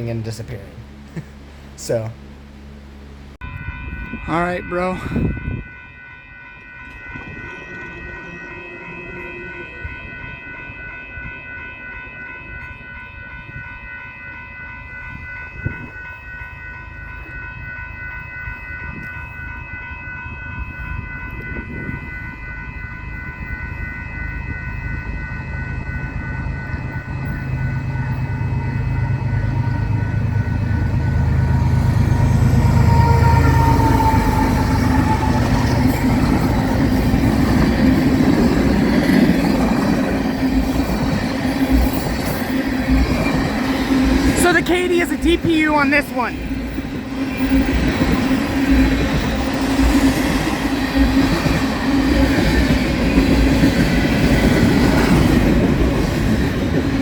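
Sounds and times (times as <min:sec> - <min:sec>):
train low rumble: 0:00.0 - 0:57.0
grade crossing bell ringing: 0:03.4 - 0:57.0.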